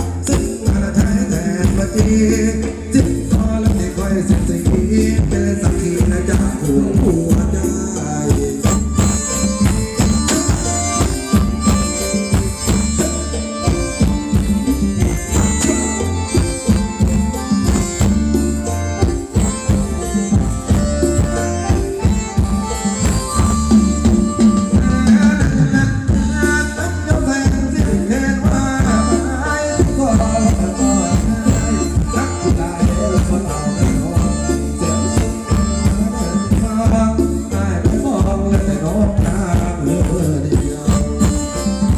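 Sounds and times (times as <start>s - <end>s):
band playing through loudspeakers: 0.0s - 41.9s
driving drum beat: 0.0s - 41.9s
hand percussion: 0.0s - 41.9s.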